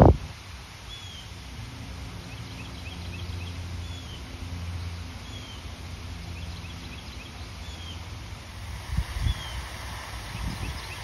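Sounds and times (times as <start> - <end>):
steady low hum: 1.5 - 11.0.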